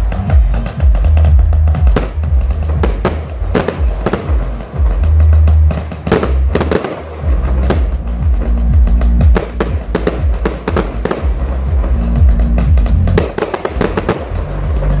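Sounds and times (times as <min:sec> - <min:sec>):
fireworks bangs and cracks: 0:00.0 - 0:15.0
loud music with deep bass: 0:00.0 - 0:15.0.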